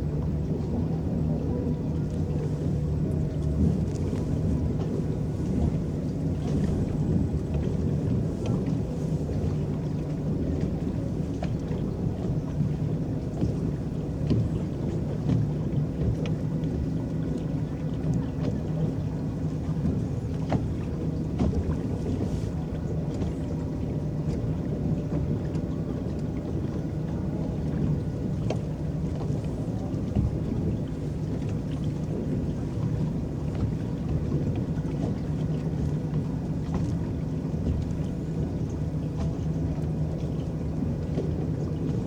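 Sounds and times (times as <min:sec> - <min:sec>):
water rippling: 0:00.0 - 0:42.0.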